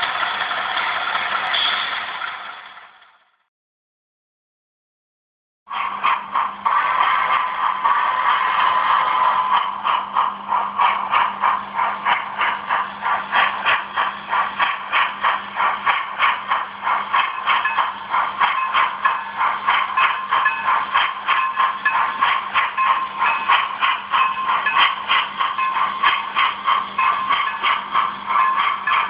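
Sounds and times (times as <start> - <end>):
steam exhaust chuffing: 5.7 - 29.0.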